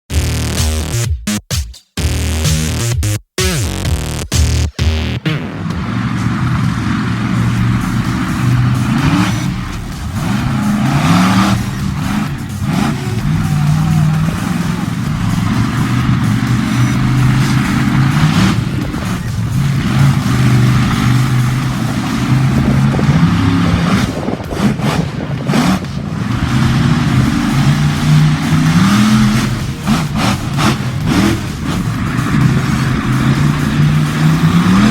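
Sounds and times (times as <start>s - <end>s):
monster truck engine revving: 3.7s - 34.9s.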